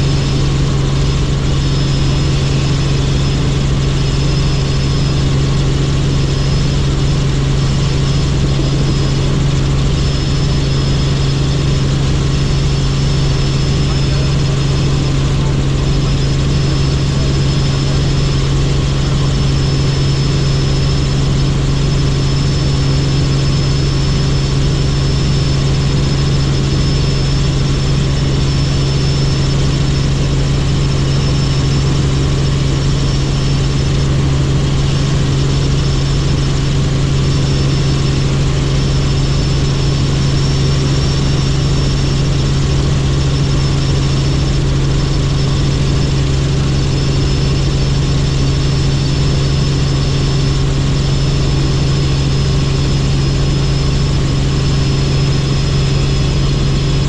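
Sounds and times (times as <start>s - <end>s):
helicopter engine and rotor drone: 0.0s - 57.0s
high-pitched whine: 0.0s - 57.0s.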